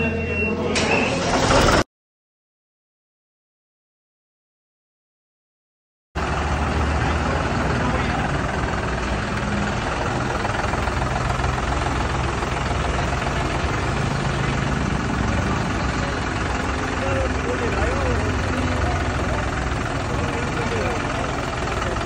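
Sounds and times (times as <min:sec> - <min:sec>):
tractor diesel engine running: 0:00.0 - 0:01.8, 0:06.2 - 0:22.0.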